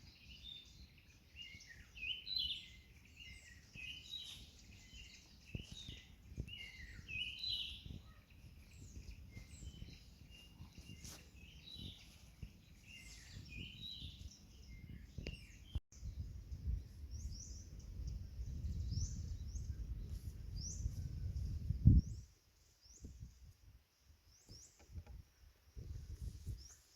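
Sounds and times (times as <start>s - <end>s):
bird high rising chirps: 0.0s - 22.2s
birds chirping and singing: 0.0s - 22.3s.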